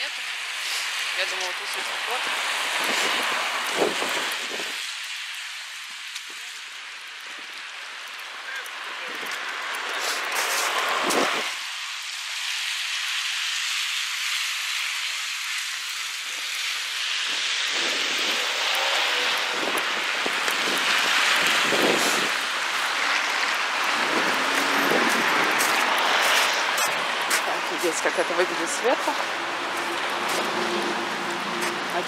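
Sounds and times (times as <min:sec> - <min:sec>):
wet road hiss: 0:00.0 - 0:32.0.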